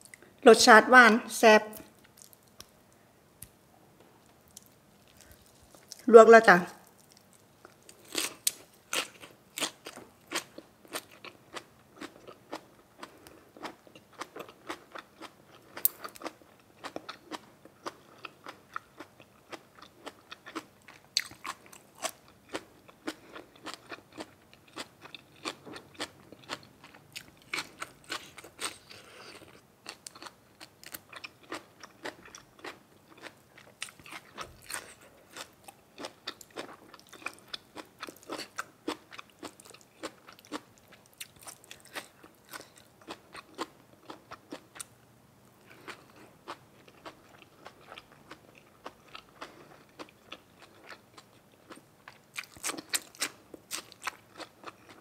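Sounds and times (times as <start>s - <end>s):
person chewing crunchy food: 6.9s - 44.9s, 45.6s - 55.0s.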